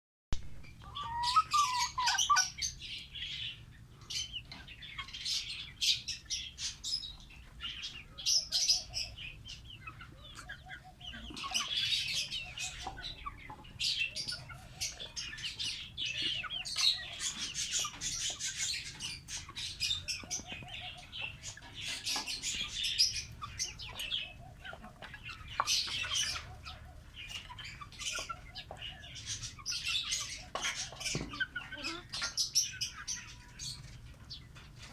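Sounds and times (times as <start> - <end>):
lovebirds chirping rapidly: 0.4 - 34.9.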